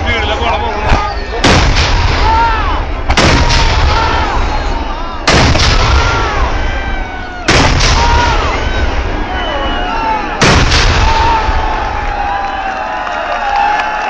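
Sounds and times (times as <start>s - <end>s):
crowd shouting: 0.0s - 14.0s
firework blasts: 0.8s - 12.7s.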